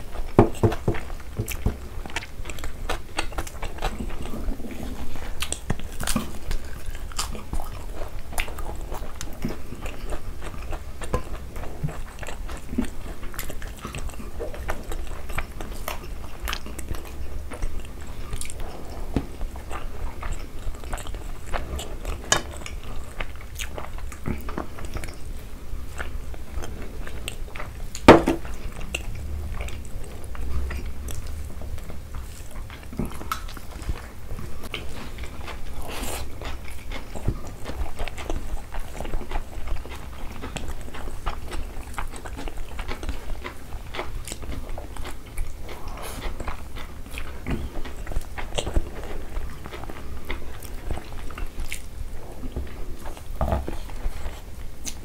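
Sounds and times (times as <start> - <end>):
chewing and mouth clicks: 0.0 - 55.0.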